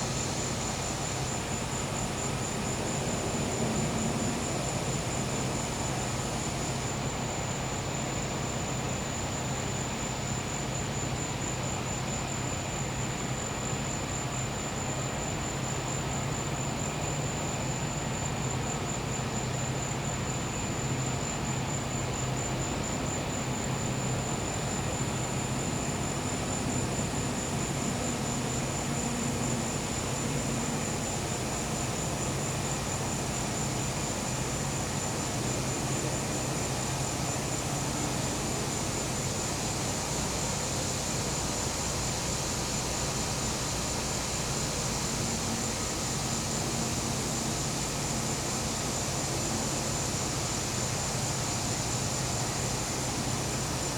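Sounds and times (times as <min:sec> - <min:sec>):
crickets trilling: 0:00.0 - 0:53.9.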